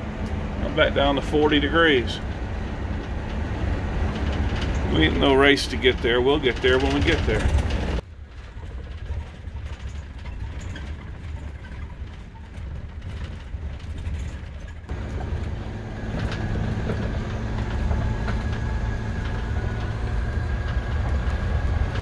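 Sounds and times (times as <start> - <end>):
vehicle rumbling over gravel road: 0.0 - 22.0.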